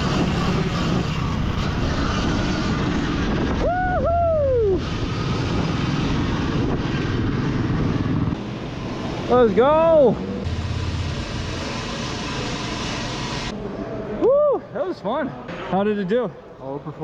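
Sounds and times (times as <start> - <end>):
electric dirt bike riding rush: 0.0 - 14.2.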